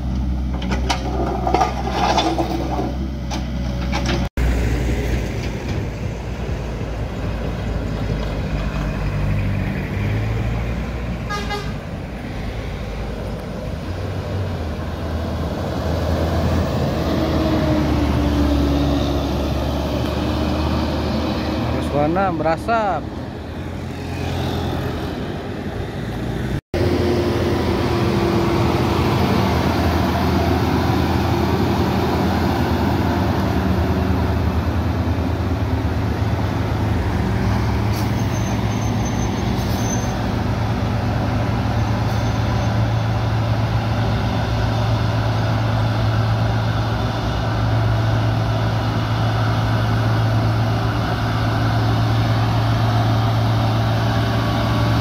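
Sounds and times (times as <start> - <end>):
heavy vehicle engine running: 0.0 - 55.0
traffic noise: 0.0 - 55.0.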